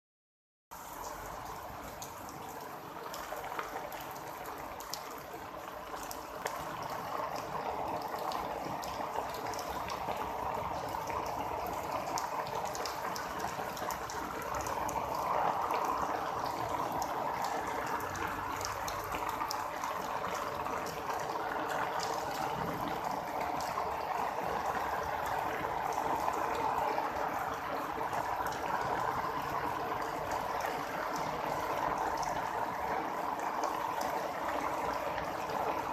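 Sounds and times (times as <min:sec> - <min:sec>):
rushing bubbling water: 0:00.8 - 0:35.9.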